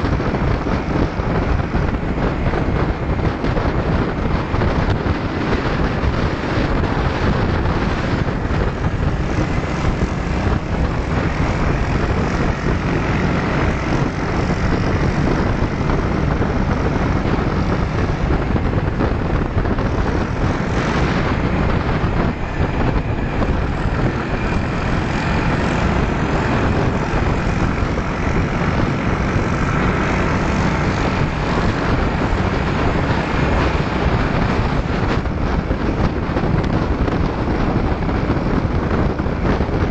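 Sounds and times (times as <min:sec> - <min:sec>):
motor scooter engines running: 0:00.0 - 0:39.9
wind rushing over microphone: 0:00.0 - 0:39.9.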